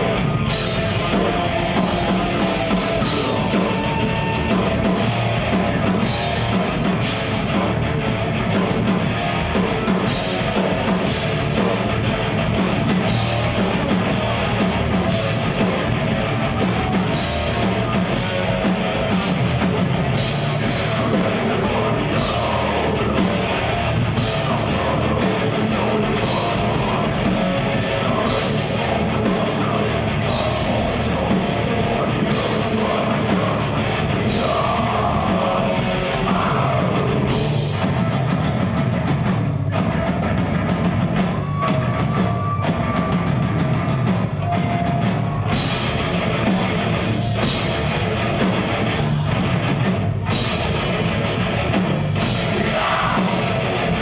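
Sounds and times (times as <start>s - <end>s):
bass guitar: 0.0s - 54.0s
distorted guitars: 0.0s - 54.0s
fast drumming: 0.0s - 54.0s.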